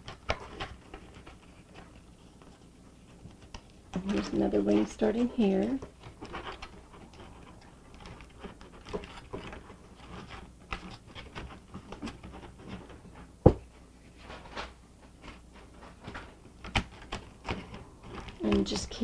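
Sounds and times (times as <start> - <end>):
aluminum foil crinkling: 0.0 - 13.1, 15.6 - 19.0.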